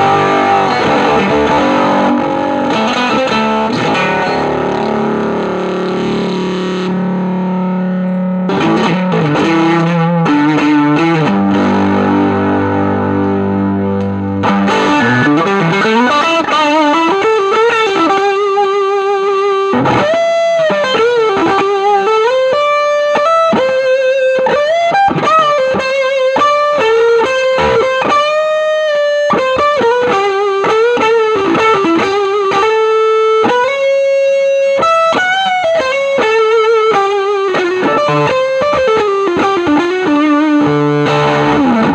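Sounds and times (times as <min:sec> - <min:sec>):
guitar string bends: 0:00.0 - 0:41.9
heavily fuzzed electric guitar: 0:00.0 - 0:41.9.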